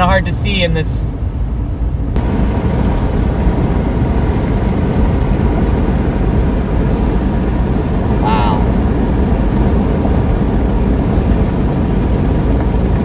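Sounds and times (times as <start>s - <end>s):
road and engine rumble inside car: 0.0s - 13.0s.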